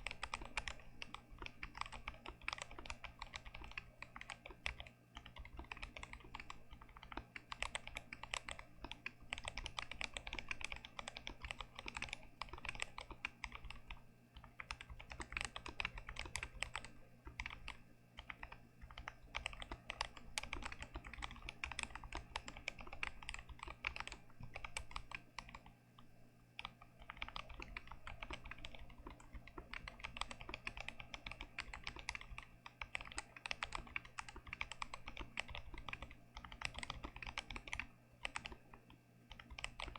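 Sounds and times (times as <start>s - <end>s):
fast typing on mechanical keyboard: 0.0s - 25.8s, 26.6s - 39.9s.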